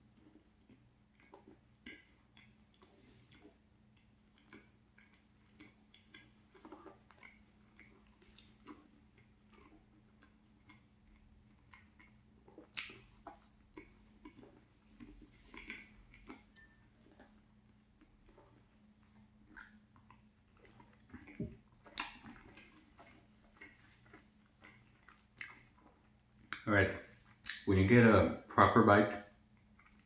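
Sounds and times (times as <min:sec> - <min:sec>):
chewing pastry: 0:00.0 - 0:27.7, 0:29.3 - 0:30.0.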